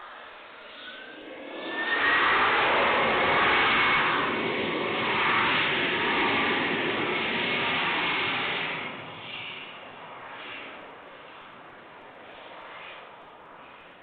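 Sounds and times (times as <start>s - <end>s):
jet engines running with whine: 0.0s - 14.0s.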